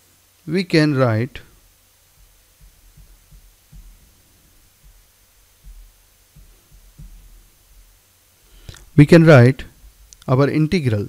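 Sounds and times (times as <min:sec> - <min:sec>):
faint low hum: 0:00.0 - 0:11.0
faint low thumps: 0:01.4 - 0:10.2.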